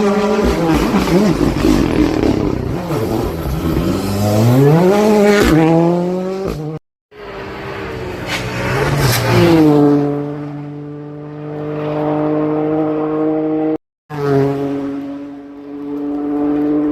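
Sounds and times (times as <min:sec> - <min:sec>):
rally car engine accelerating: 0:00.0 - 0:16.9.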